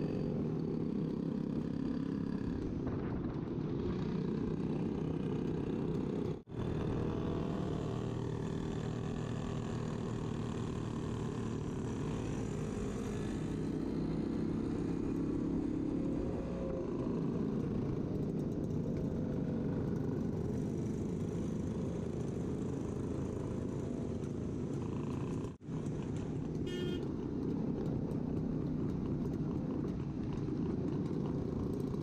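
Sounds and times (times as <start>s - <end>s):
other motorcycles nearby: 0.0s - 32.0s.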